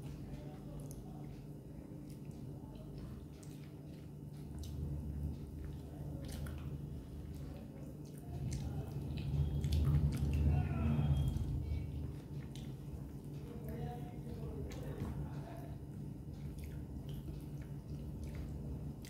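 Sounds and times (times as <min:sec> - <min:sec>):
mouth chewing: 0:00.0 - 0:19.0.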